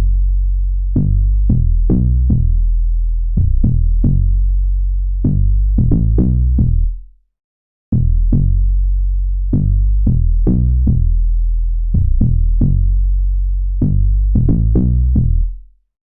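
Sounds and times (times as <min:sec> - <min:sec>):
deep bass: 0:00.0 - 0:07.2, 0:07.9 - 0:15.7.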